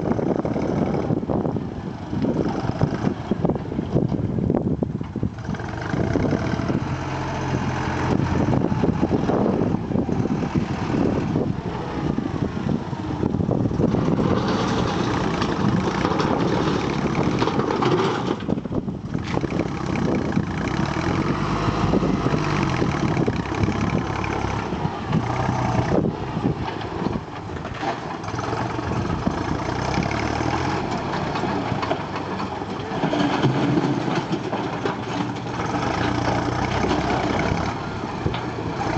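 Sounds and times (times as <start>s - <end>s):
backhoe loader engine running: 0.0s - 38.9s.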